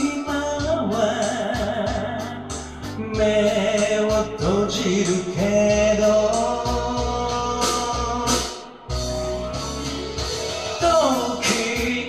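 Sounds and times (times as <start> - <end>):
man singing with vibrato: 0.0 - 8.7, 10.7 - 12.0
karaoke backing track: 0.0 - 12.0.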